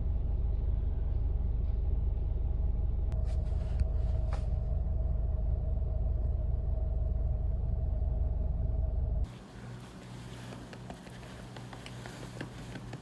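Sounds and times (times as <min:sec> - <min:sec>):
faint hum: 0:00.0 - 0:13.0
low mechanical rumble: 0:00.0 - 0:13.0.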